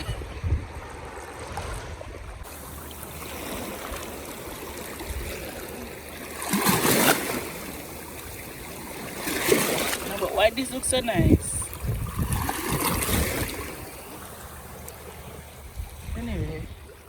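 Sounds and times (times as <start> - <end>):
sea water washing at shore: 0.0 - 17.0.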